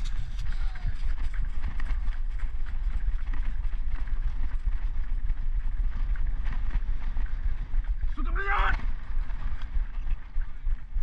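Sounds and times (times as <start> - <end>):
footsteps: 0.0 - 11.0
wind on microphone: 0.0 - 11.0.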